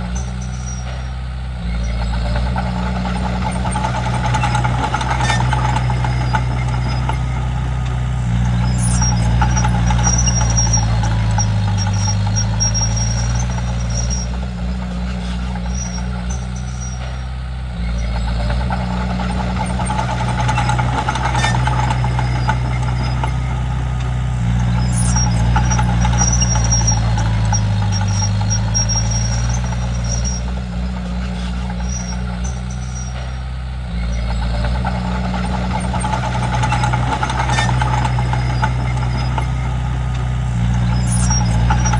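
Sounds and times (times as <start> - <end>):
bulldozer diesel engine under load: 0.0 - 41.9
high-pitched machine squeaks: 0.0 - 41.9.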